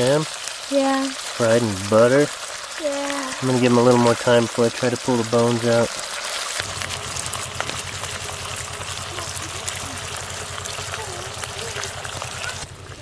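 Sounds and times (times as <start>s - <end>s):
fish sizzling in butter in a pan: 0.0s - 13.0s.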